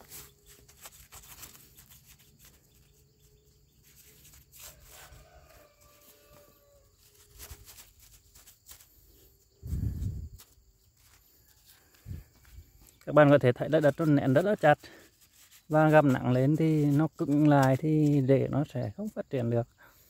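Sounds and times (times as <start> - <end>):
stick scratching soil: 0.0 - 20.0.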